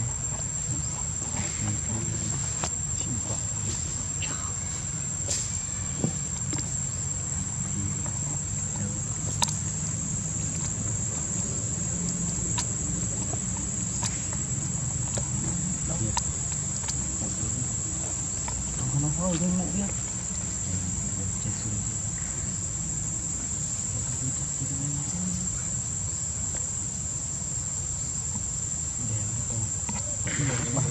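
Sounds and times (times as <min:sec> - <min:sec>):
high-pitched insect drone: 0:00.0 - 0:30.9.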